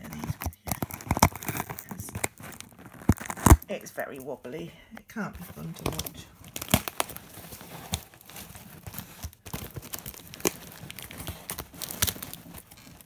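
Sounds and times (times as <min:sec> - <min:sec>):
packing tape peeling off cardboard: 0:00.0 - 0:03.7, 0:05.7 - 0:13.0.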